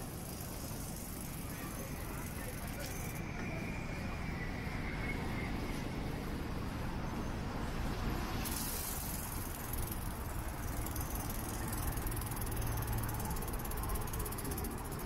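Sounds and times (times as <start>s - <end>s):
low vehicle hum: 0.0s - 15.0s
street traffic: 0.0s - 15.0s.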